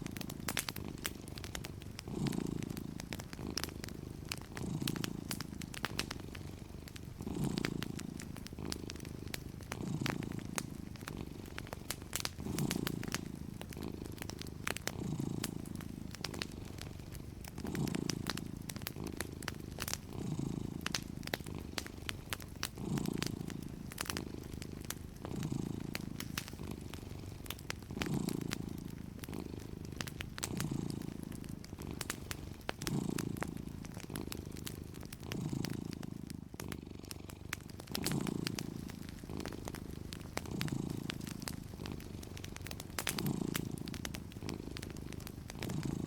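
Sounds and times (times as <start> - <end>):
cat purring: 0.0 - 46.0
wood fire crackling: 0.0 - 46.0.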